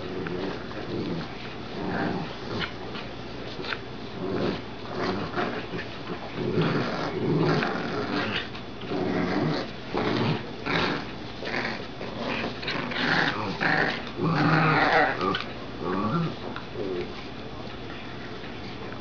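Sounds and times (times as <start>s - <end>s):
puppies growling in play: 0.0s - 19.0s.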